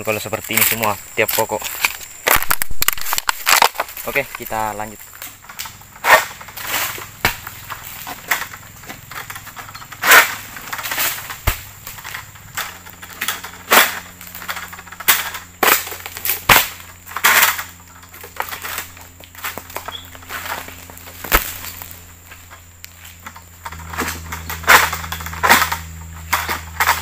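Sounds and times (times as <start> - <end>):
rasping rustles of fronds: 0.0 - 27.0
sickle cracking through palm stalks: 0.0 - 27.0.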